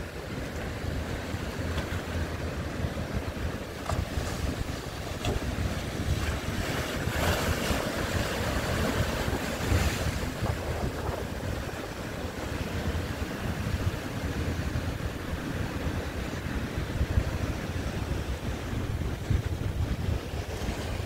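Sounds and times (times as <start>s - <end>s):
sea waves breaking: 0.0s - 21.0s
wind rumble on microphone: 0.0s - 21.0s.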